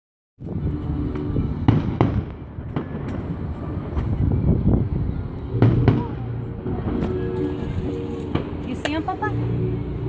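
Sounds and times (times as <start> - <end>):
fireworks rumbling and banging: 0.4 - 10.0.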